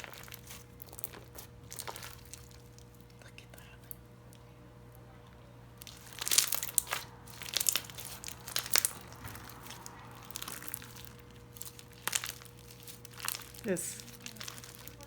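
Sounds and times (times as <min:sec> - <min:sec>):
slime squishing with crunchy pops: 0:00.0 - 0:03.2, 0:05.8 - 0:15.0.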